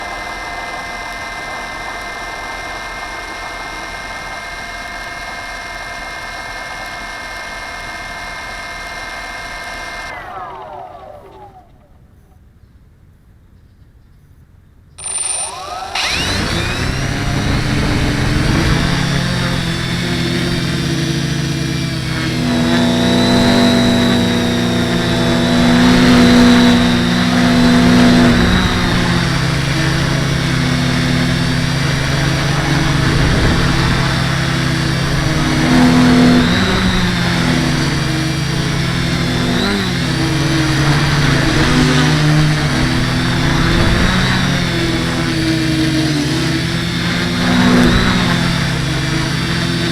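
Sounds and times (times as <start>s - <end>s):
quadcopter motors buzzing: 0.0s - 12.4s, 15.0s - 49.9s.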